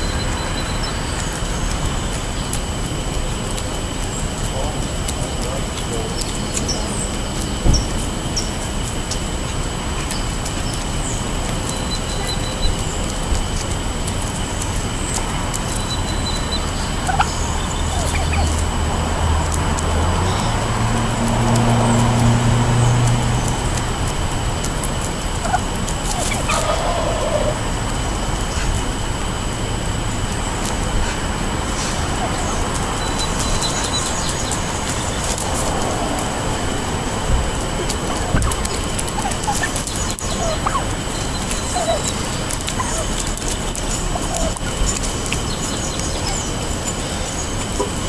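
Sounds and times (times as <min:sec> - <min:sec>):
pecking clicks on pavement: 0:00.0 - 0:48.0
turkeys calling: 0:00.0 - 0:48.0.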